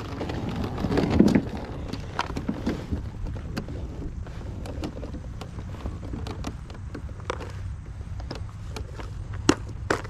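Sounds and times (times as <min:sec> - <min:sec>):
tackle box and bag rustling: 0:00.0 - 0:10.0.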